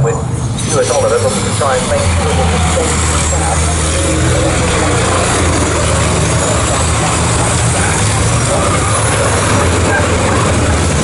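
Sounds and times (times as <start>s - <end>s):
road noise: 0.0s - 11.0s
truck diesel engines passing: 0.0s - 11.0s.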